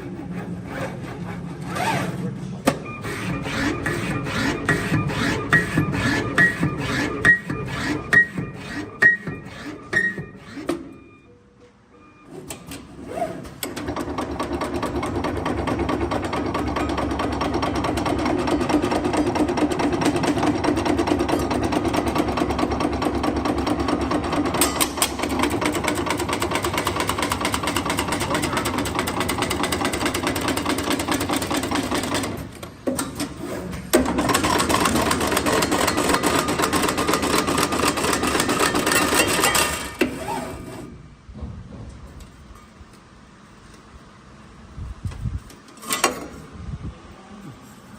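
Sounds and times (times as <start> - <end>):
bending machine mechanical clatter: 0.0 - 10.9, 12.4 - 42.6.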